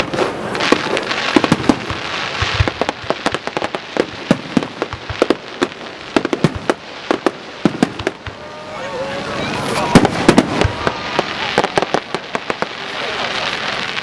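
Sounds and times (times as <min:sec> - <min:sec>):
fireworks bangs and crackling pops: 0:00.0 - 0:14.0
fireworks hissing: 0:00.0 - 0:14.0.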